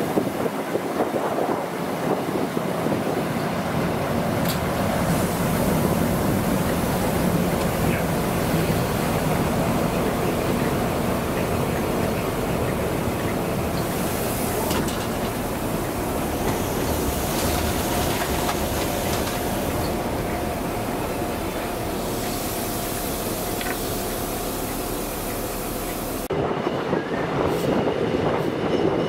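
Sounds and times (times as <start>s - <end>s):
rushing air: 0.0s - 28.7s
train wheels rumbling on rail: 0.0s - 29.0s.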